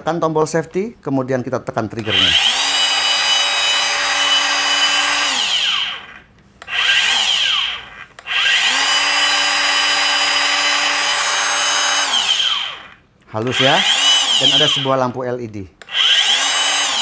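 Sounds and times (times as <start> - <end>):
circular saw whining: 2.0 - 15.1, 15.9 - 17.0.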